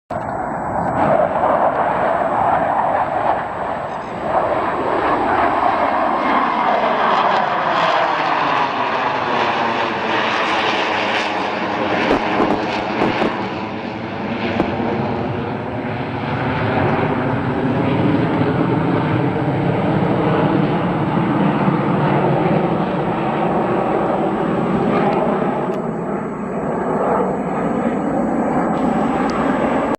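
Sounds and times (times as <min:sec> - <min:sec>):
airplane flying past: 0:00.2 - 0:29.9.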